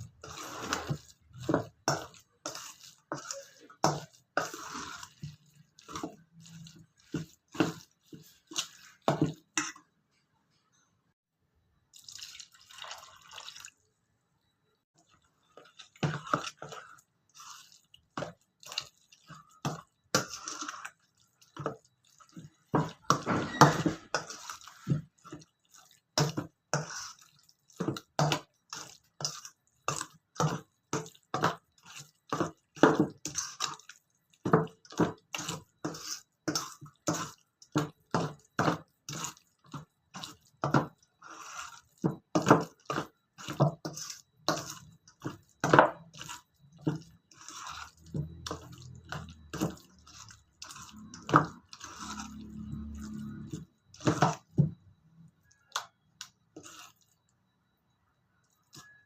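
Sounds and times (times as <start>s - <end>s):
hands squelching wet dough: 0.0s - 9.9s, 11.9s - 13.9s, 14.9s - 59.0s.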